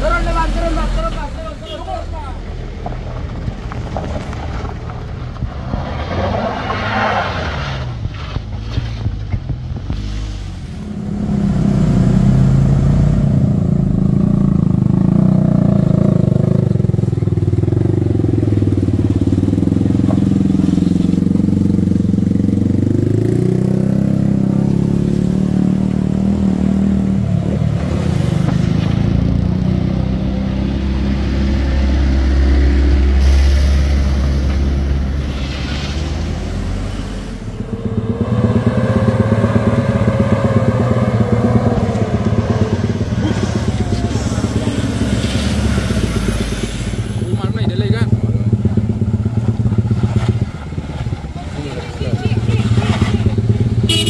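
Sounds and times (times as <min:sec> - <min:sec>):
traffic noise: 0:00.0 - 0:54.0
heavy vehicle engine working hard: 0:07.9 - 0:54.0.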